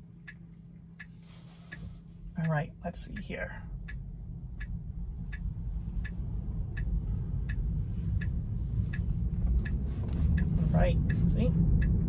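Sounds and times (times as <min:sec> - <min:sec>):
road and cabin rumble: 0:00.0 - 0:12.0
turn signal ticking: 0:00.0 - 0:12.0.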